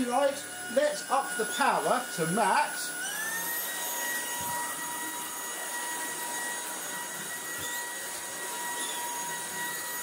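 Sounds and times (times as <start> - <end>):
stick vacuum whining: 0.0 - 10.0.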